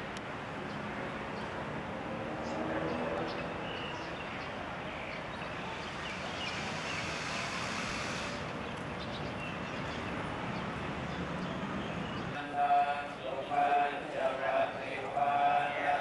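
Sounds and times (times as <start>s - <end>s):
distant street traffic hum: 0.0s - 16.0s.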